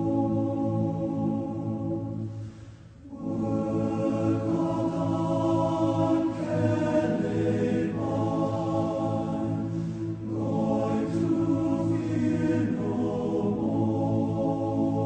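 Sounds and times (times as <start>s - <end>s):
slow music of held chords: 0.0s - 15.0s.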